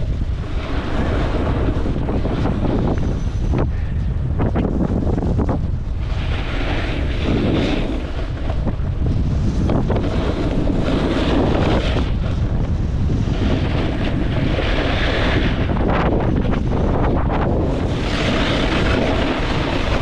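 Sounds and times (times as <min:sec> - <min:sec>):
snowboard edge scraping snow: 0:00.0 - 0:03.9, 0:04.6 - 0:20.0
wind buffeting microphone: 0:00.0 - 0:20.0.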